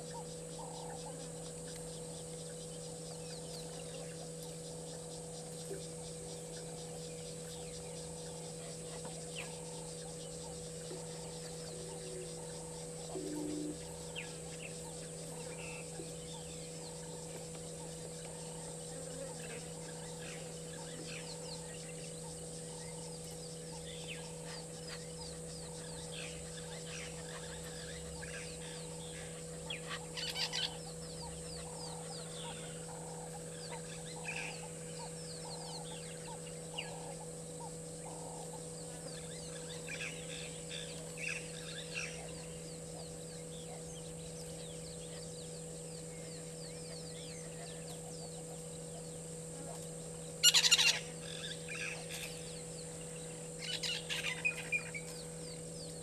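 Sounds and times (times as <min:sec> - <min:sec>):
electrical hum: 0:00.0 - 0:56.0
wild birds calling: 0:00.0 - 0:56.0.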